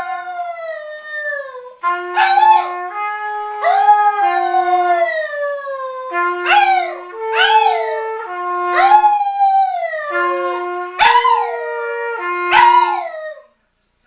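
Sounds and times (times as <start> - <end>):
dog howling: 0.0 - 2.9, 3.6 - 13.5
trumpet notes: 1.6 - 13.4.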